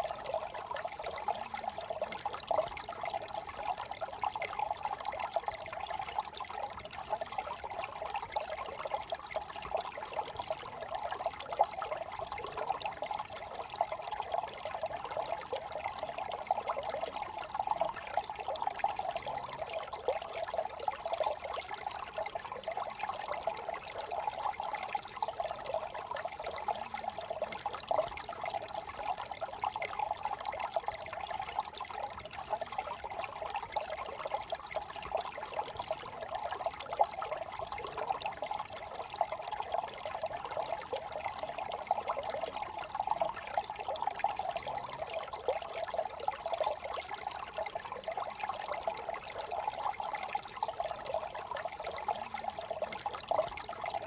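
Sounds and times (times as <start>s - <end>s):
brook water trickling: 0.0s - 54.0s.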